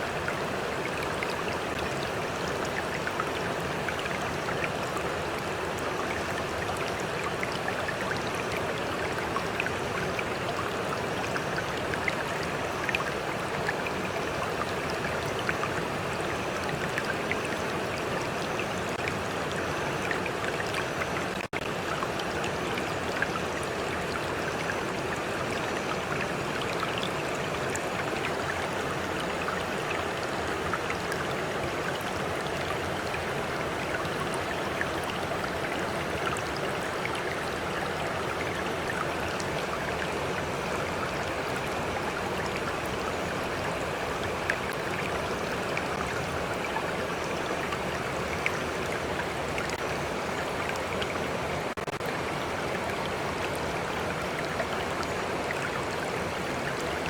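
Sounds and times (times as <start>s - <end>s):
stream rushing and lapping: 0.0s - 57.0s.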